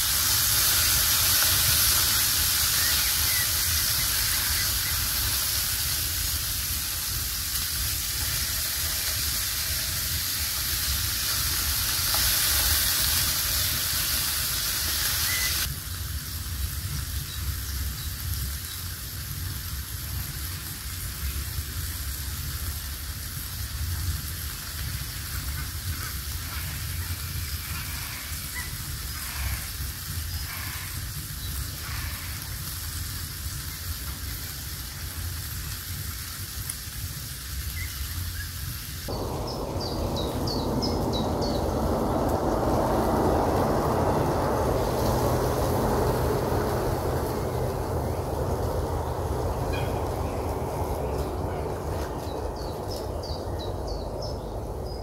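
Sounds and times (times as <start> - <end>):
food sizzling in a pan: 0.0 - 51.3.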